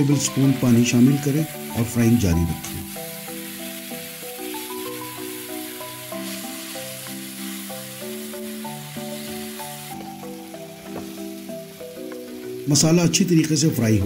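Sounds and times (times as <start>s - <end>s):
food sizzling in oil: 0.0s - 14.0s
simple melody background music: 0.0s - 14.0s.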